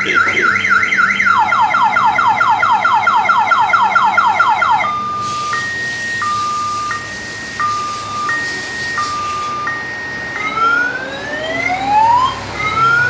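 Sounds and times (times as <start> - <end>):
electronic alarm siren: 0.0 - 13.0.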